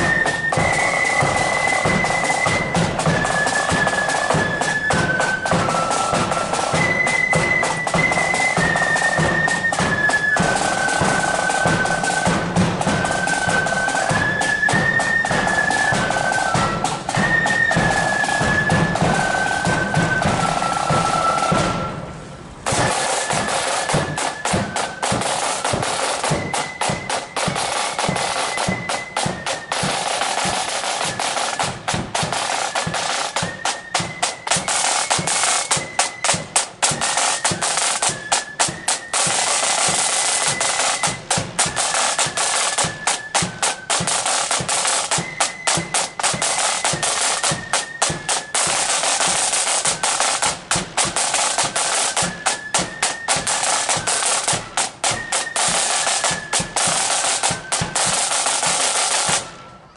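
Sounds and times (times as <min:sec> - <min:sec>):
flutes playing a tune: 0:00.0 - 0:59.9
snare drum rolls: 0:00.0 - 0:59.9.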